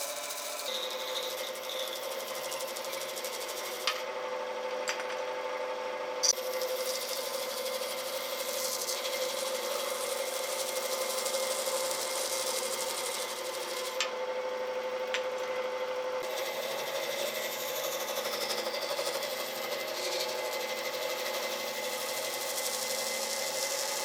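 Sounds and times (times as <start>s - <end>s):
power tool buzzing: 0.0s - 5.4s, 6.2s - 24.0s.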